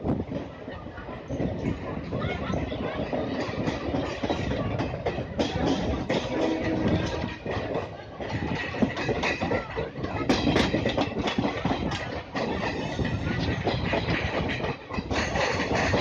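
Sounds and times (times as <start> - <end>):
clickety-clack over rail joints: 0.0 - 16.0
train wheels rumbling: 0.0 - 16.0.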